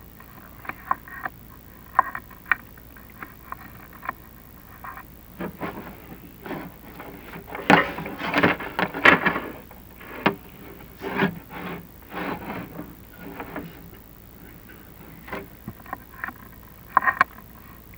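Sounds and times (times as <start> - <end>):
camera scraping inside chimney flue: 3.0 - 17.9.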